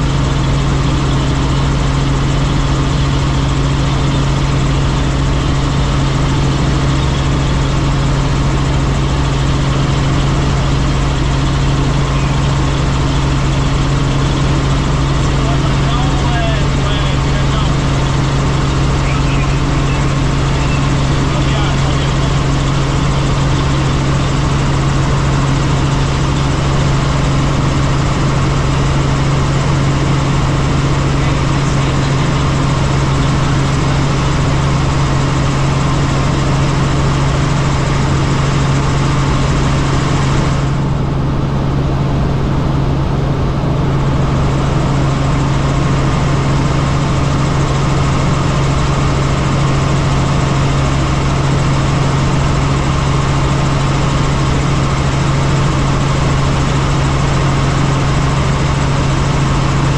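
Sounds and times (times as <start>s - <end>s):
helicopter drone: 0.0s - 59.9s.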